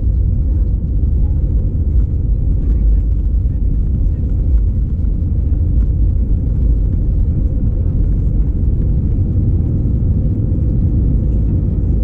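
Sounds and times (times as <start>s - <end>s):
airplane engines deep rumble: 0.0s - 12.0s.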